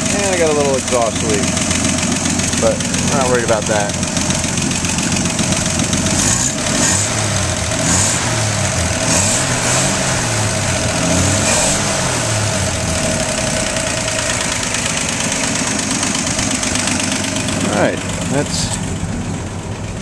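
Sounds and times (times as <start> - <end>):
exhaust leak: 0.0 - 20.0
truck engine idling: 0.0 - 20.0.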